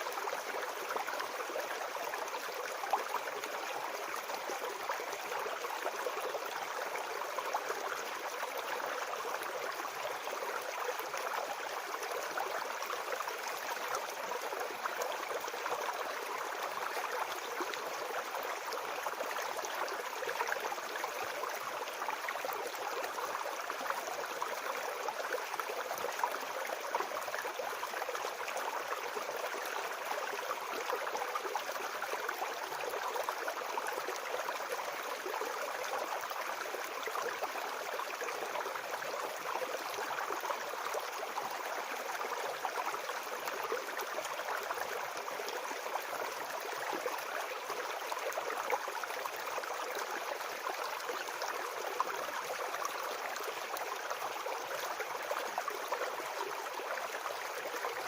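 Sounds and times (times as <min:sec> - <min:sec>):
brook water gurgling: 0:00.0 - 0:58.0.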